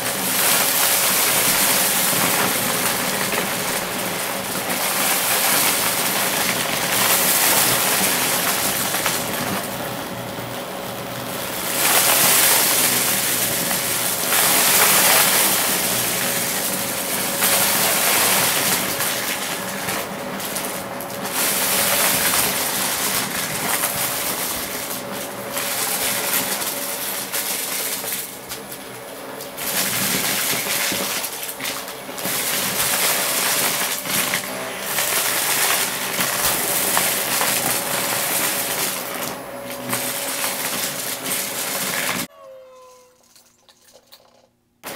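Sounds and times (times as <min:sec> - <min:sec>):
vacuum cleaner motor whine: 0:00.0 - 0:42.4
plastic debris rattling: 0:00.1 - 0:09.8, 0:11.5 - 0:28.9, 0:29.5 - 0:42.3.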